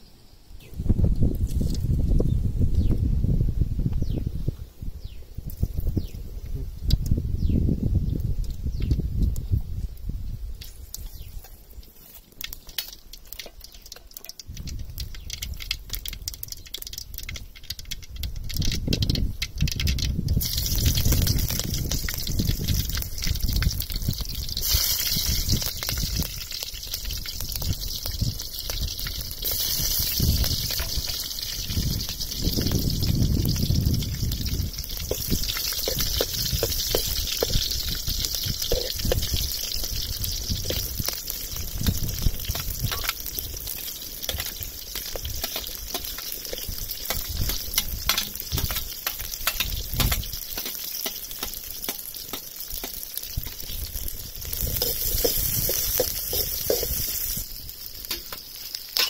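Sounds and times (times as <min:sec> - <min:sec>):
chillies sizzling in oil: 0:00.5 - 0:59.0.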